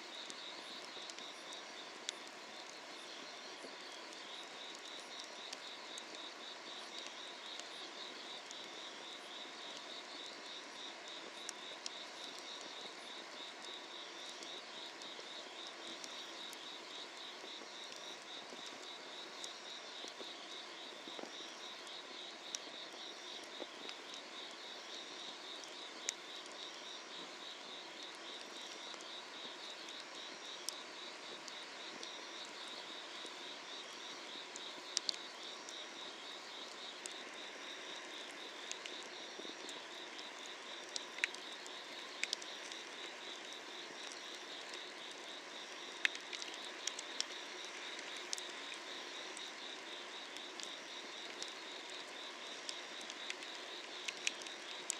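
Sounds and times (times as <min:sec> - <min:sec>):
night insects trilling: 0:00.0 - 0:54.9
wood fire crackling: 0:00.2 - 0:10.6, 0:11.2 - 0:33.3, 0:33.9 - 0:54.9.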